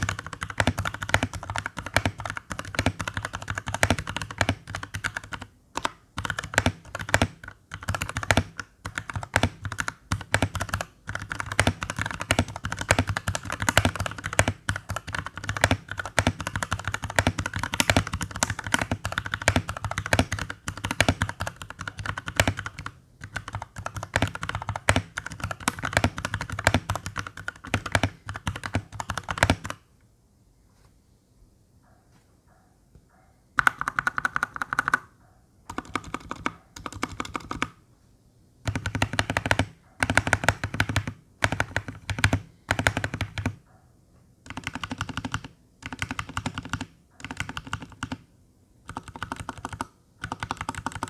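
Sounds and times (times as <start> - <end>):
typing on mechanical keyboard: 0.0 - 29.8, 33.6 - 35.1, 35.7 - 37.8, 38.6 - 43.6, 44.5 - 51.0.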